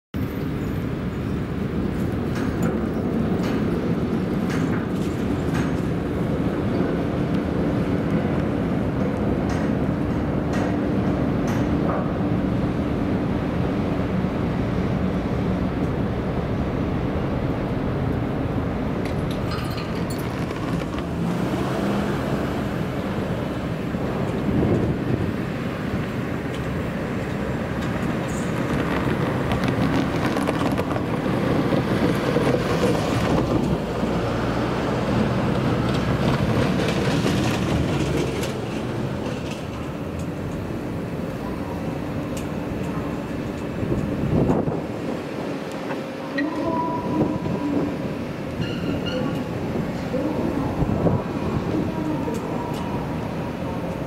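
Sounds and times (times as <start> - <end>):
train running on rails: 0.2 - 54.0.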